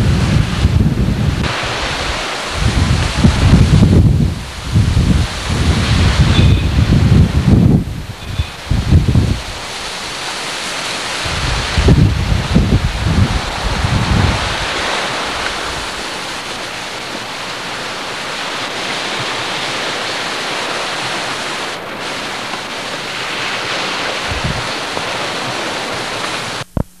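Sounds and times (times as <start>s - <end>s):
wind buffeting microphone: 0.0s - 10.2s, 11.1s - 16.5s, 18.4s - 26.6s
wind and surf rushing: 0.0s - 26.9s.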